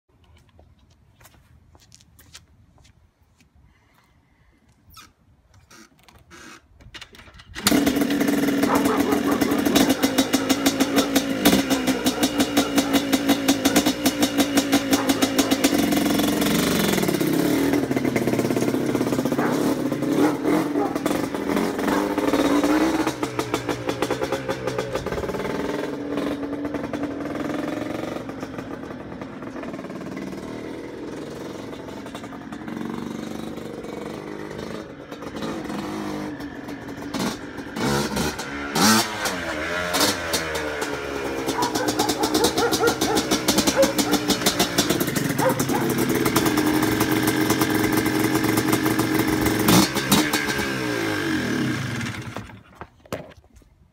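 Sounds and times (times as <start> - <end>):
two-stroke quad engine revving: 7.5 - 52.8.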